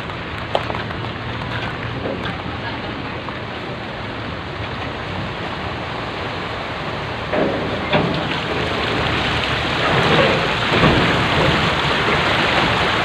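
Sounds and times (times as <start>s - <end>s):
low engine hum: 0.0s - 13.0s
water sloshing under truck wheels: 0.0s - 13.0s.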